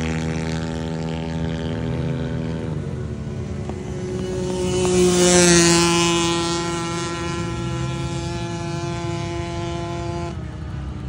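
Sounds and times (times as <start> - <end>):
quad bike engines revving high: 0.0 - 11.0.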